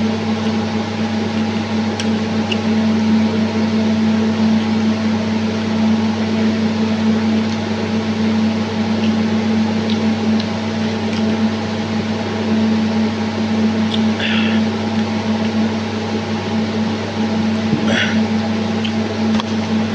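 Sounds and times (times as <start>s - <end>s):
fan motor humming: 0.0s - 19.9s.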